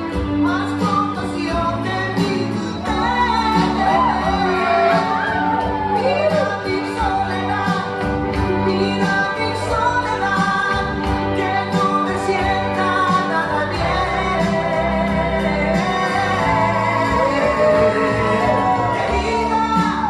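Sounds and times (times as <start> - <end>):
song over portable loudspeaker: 0.0 - 20.0.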